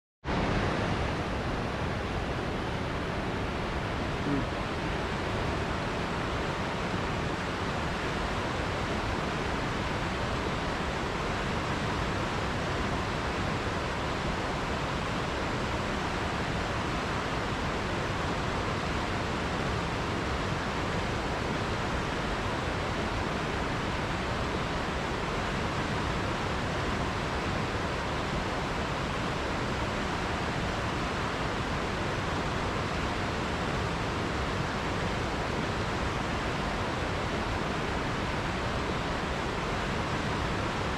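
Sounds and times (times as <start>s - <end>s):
river water rushing: 0.3s - 40.9s.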